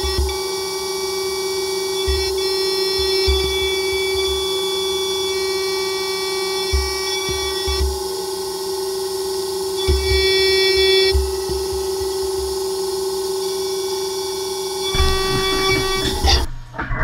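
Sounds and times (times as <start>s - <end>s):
milling machine whine: 0.0s - 16.5s.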